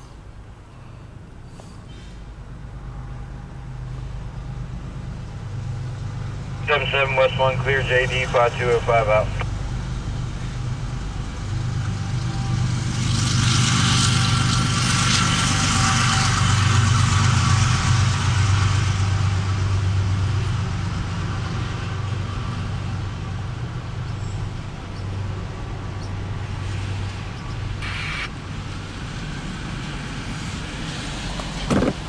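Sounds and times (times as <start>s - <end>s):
diesel locomotive engine hum: 0.0s - 32.0s
freight cars rumbling on rails: 0.0s - 32.0s.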